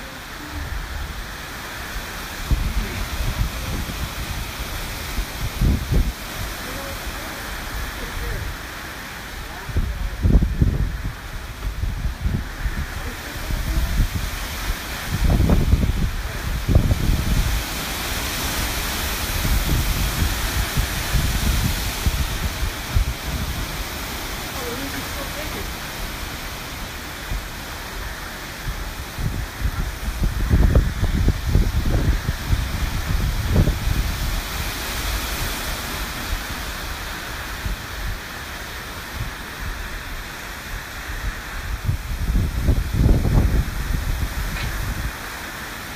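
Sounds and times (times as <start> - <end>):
hurricane wind and rain hiss: 0.0 - 45.9
wind gusts buffeting microphone: 0.0 - 45.9.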